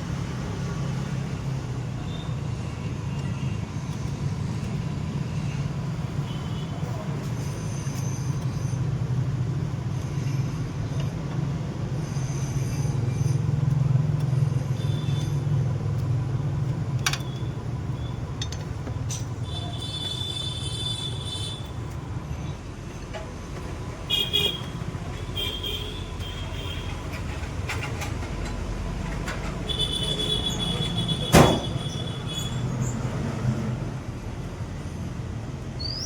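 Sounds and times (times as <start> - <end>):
large vehicle engine rumbling: 0.0 - 36.0.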